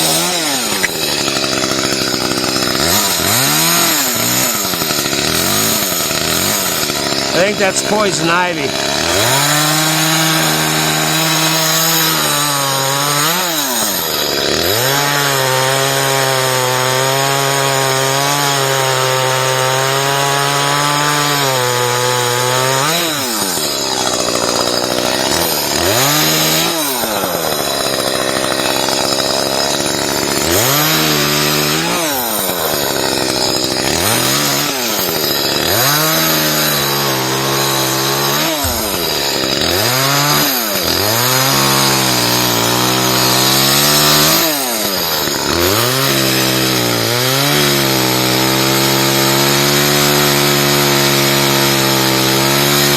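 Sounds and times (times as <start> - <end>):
chainsaw cutting branches: 0.0 - 52.9.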